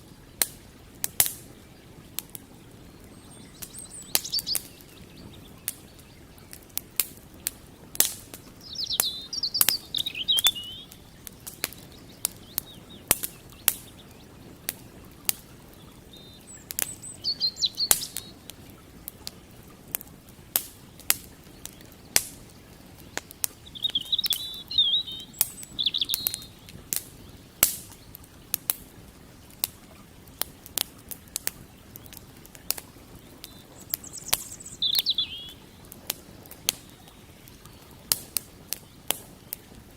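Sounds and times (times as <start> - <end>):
campfire crackling and popping: 0.0 - 39.9
songbirds chirping: 0.0 - 39.9.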